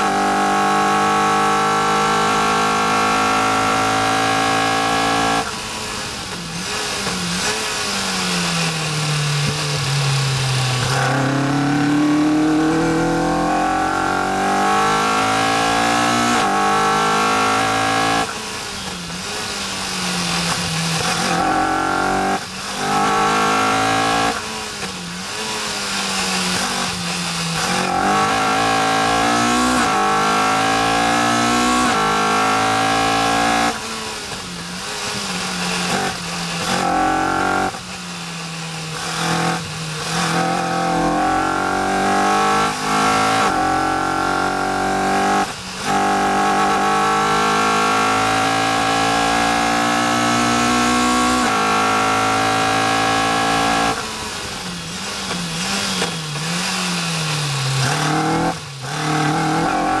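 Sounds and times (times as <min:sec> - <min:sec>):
car engine accelerating hard: 0:00.0 - 1:00.0.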